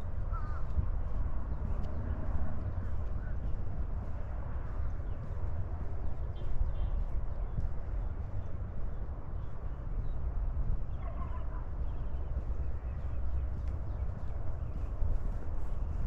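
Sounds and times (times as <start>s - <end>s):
footsteps on sandy trail: 0.0s - 16.0s.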